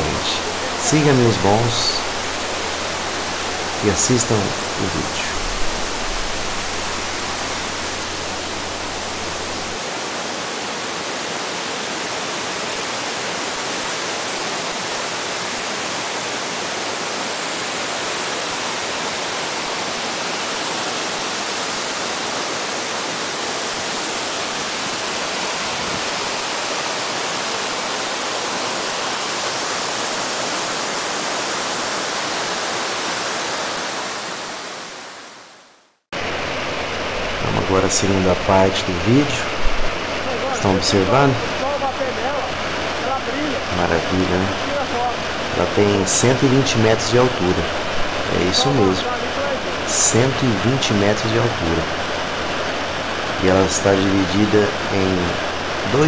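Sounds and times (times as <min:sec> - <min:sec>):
stream rushing over boulders: 0:00.0 - 0:35.6, 0:36.2 - 0:56.0.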